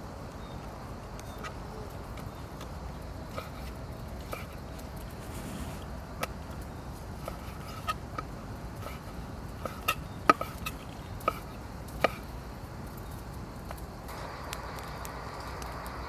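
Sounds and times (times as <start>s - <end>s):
faint steady sound: 0.0s - 16.0s.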